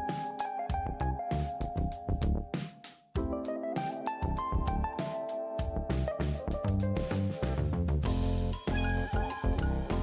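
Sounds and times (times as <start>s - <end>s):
keyboard melody over a beat: 0.0s - 7.5s, 8.1s - 10.0s.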